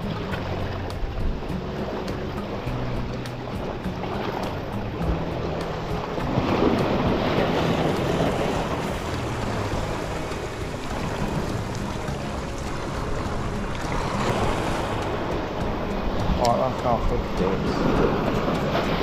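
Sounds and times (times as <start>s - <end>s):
sea waves washing against rocks: 0.0s - 19.0s
wind buffeting microphone: 0.0s - 19.0s.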